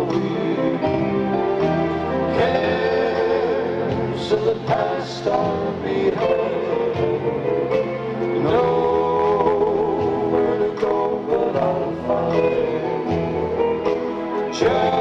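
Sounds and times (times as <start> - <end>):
men singing in close harmony: 0.0 - 7.8, 8.4 - 13.5, 14.4 - 15.0
acoustic guitars strummed: 0.0 - 15.0.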